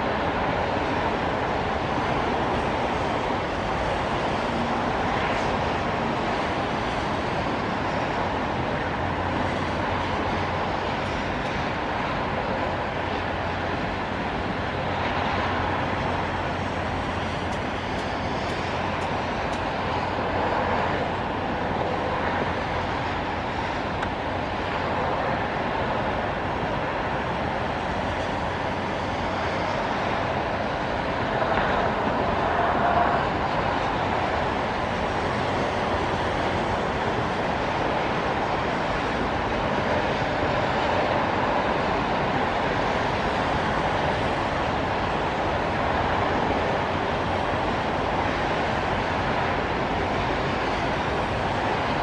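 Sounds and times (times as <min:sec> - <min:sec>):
highway traffic on wet road: 0:00.0 - 0:52.0.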